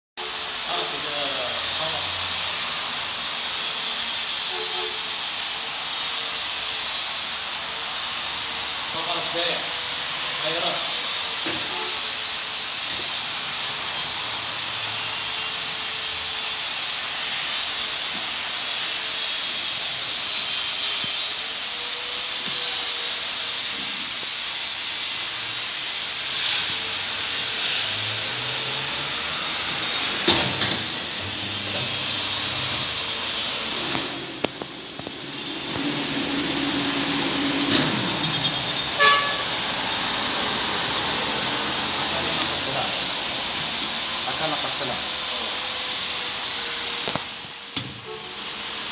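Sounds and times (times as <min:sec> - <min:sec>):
shrink-wrapping machine hissing: 0:00.2 - 0:48.9.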